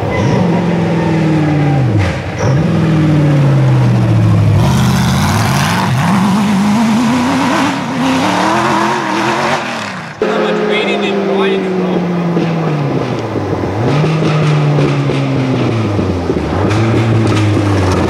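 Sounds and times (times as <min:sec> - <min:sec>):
race buggy engine revving: 0:00.0 - 0:18.0.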